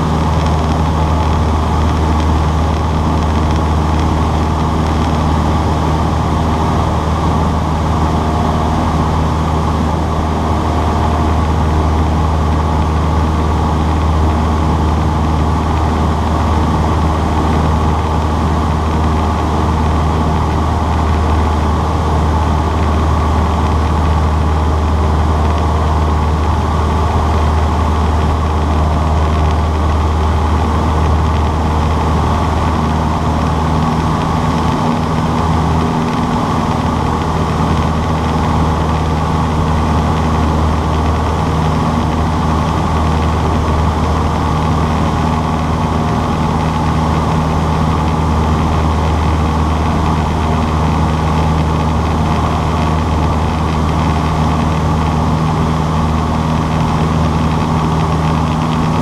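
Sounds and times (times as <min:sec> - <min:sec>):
small airplane engine hum: 0:00.0 - 0:59.0.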